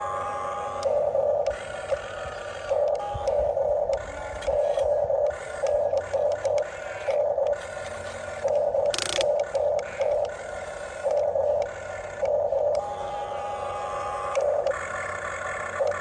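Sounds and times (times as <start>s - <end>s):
electric gear motors whirring: 0.0s - 16.0s.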